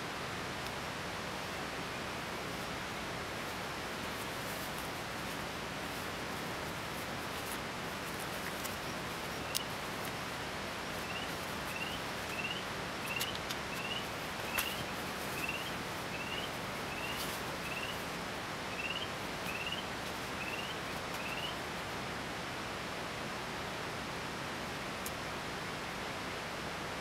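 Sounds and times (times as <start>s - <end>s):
steady forest hiss: 0.0s - 27.0s.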